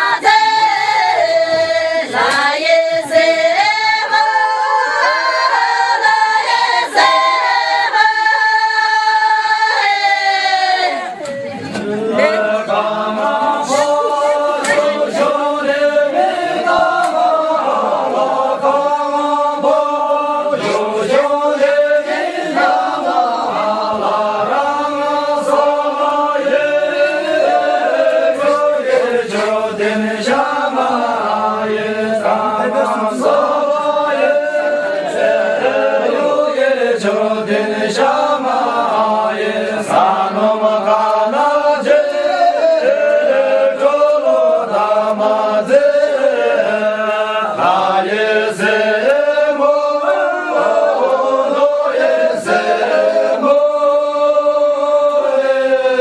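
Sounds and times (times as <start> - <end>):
group singing unaccompanied: 0.0 - 56.0.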